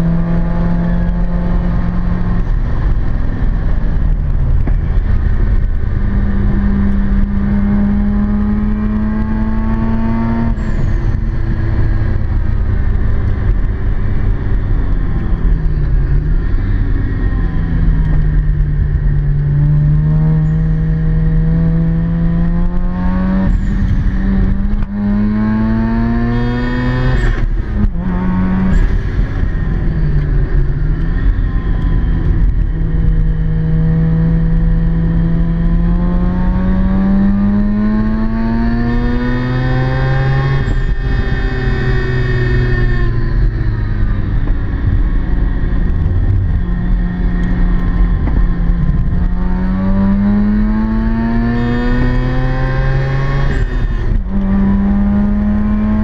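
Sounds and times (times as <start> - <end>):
road and tyre rumble: 0.0 - 56.0
rotary engine accelerating: 0.0 - 56.0.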